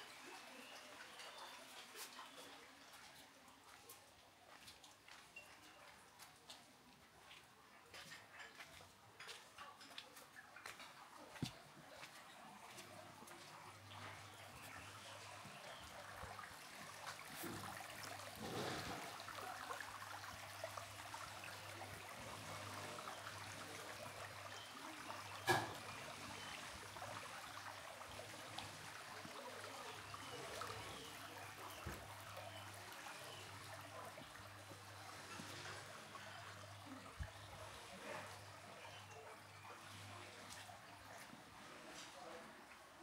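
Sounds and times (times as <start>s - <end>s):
trickle of running water: 0.0s - 43.0s.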